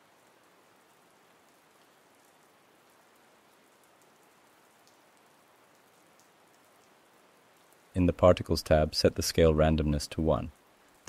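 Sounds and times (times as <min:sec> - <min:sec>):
rain hiss: 0:00.0 - 0:11.0
raindrop ticks: 0:00.1 - 0:11.0.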